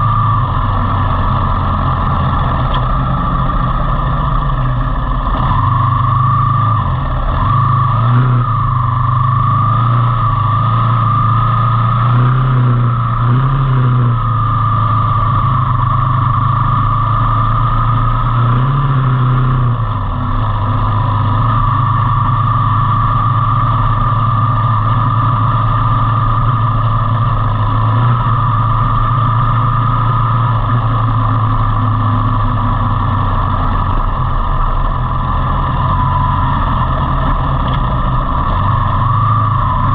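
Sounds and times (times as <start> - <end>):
high whine: 0.0 - 39.9
motorcycle engine running: 0.0 - 39.9.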